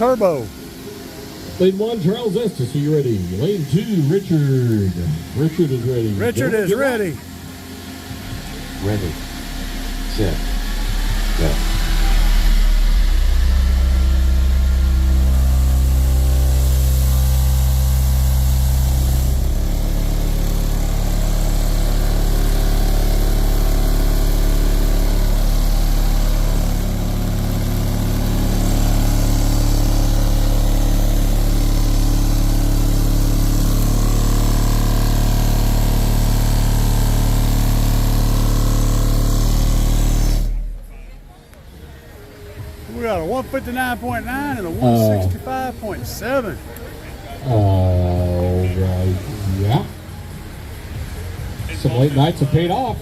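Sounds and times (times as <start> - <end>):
subwoofers playing deep bass notes: 0.0 - 53.0.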